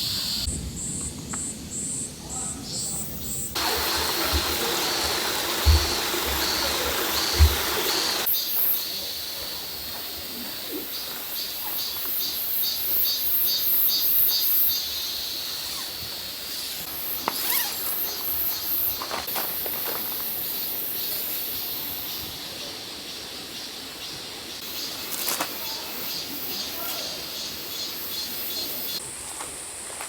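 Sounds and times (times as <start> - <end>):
steady forest hiss: 0.0 - 30.0.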